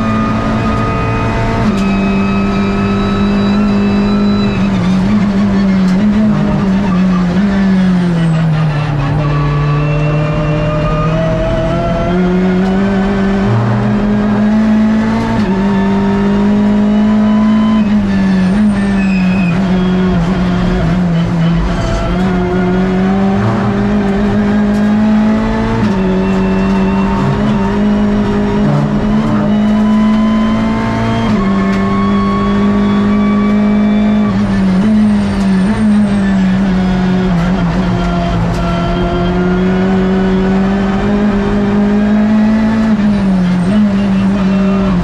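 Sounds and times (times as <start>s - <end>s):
race car engine revving: 0.0s - 45.0s.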